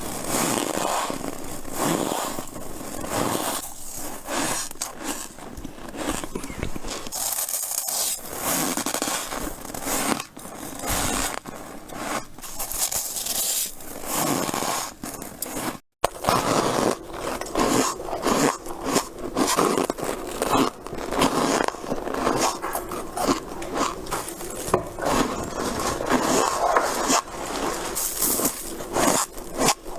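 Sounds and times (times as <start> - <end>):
frost being chewed squeaky crunches: 0.0 - 29.9.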